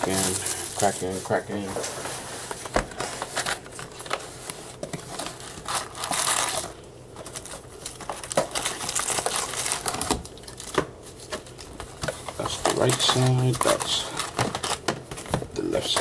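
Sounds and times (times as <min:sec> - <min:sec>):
plastic wrap crinkling and tearing: 0:00.0 - 0:16.0.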